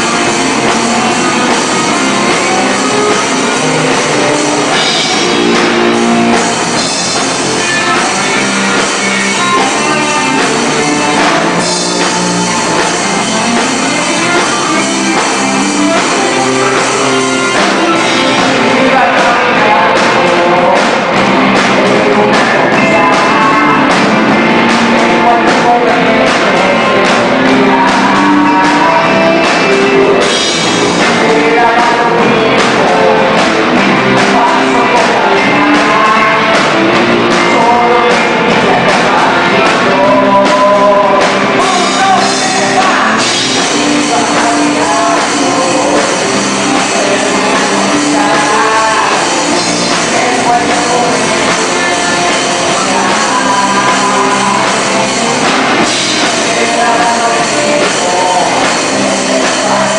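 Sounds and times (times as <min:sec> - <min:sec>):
person singing: 0:00.0 - 0:59.9
rock band playing: 0:00.0 - 0:59.9.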